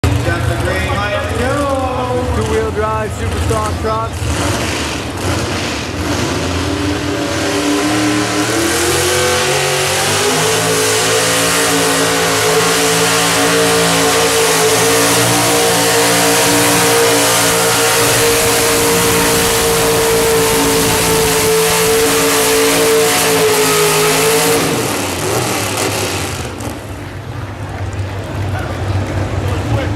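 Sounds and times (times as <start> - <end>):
truck engine at full throttle: 0.0 - 29.9.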